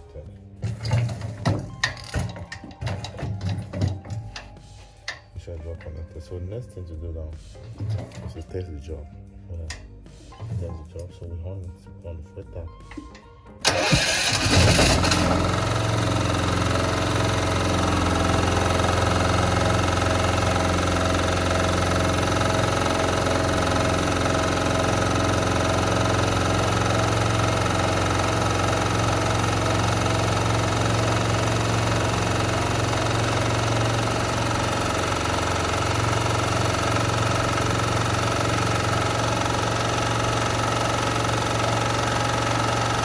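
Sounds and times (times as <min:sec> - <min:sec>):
generator engine running: 0:00.0 - 0:05.6, 0:13.6 - 0:43.0.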